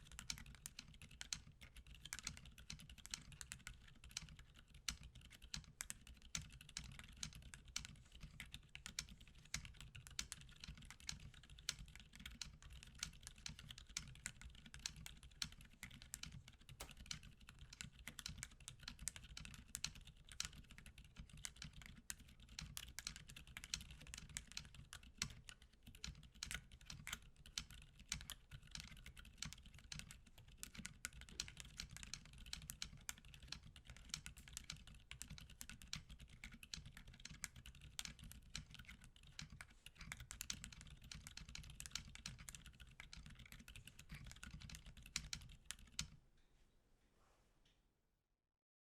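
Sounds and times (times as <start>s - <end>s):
muted keyboard keystrokes: 0.0s - 46.2s.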